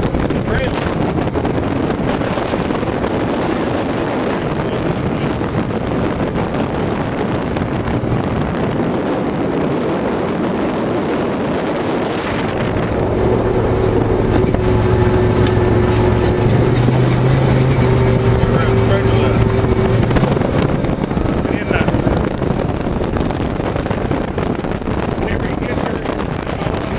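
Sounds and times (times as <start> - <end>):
engine running: 0.0 - 26.9
wind rush on microphone: 0.0 - 26.9.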